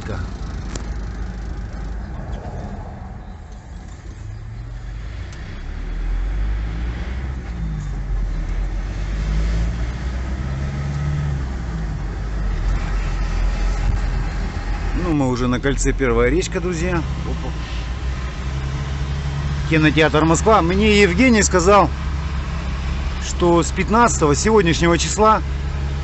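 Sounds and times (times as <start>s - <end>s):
diesel engine from inside cab: 0.0s - 26.0s
road rumble: 0.0s - 26.0s.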